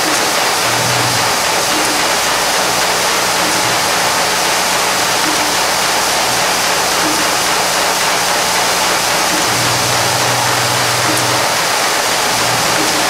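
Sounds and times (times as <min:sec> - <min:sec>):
screw assembly machine running: 0:00.0 - 0:13.0.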